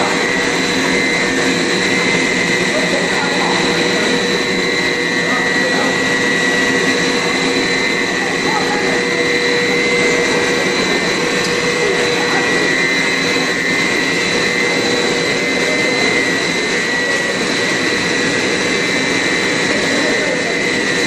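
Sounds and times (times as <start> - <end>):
constant high whine: 0.0 - 21.0
production line machinery: 0.0 - 21.0.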